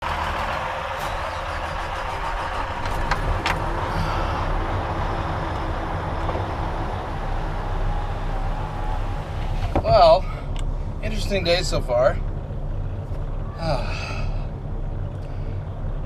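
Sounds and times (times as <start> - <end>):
truck diesel engine rumbling: 0.0 - 16.0.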